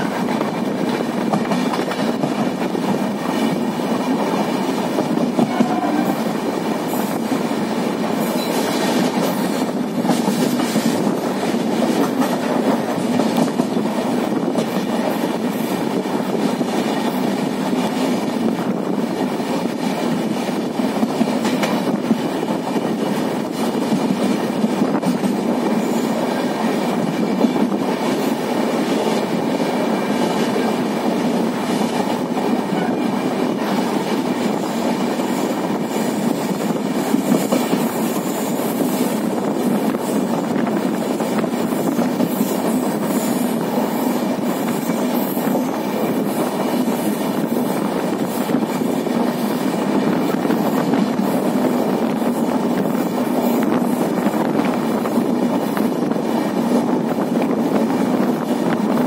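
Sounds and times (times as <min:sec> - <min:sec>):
train wheel clacks: 0:00.0 - 0:59.0
train wheels rumbling on rail: 0:00.0 - 0:59.0.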